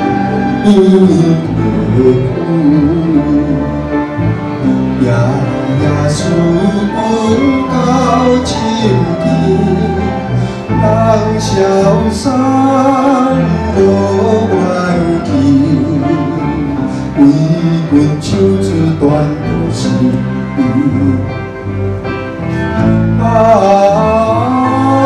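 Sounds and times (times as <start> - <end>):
man singing into microphone: 0.0 - 21.5, 23.0 - 25.0
flute: 0.0 - 21.6, 22.5 - 25.0
acoustic guitar: 0.0 - 25.0
cello: 0.0 - 25.0
electric bass: 0.0 - 25.0.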